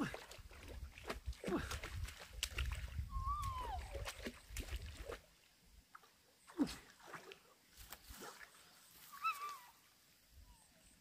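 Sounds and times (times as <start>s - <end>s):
water splashing: 0.0s - 9.4s.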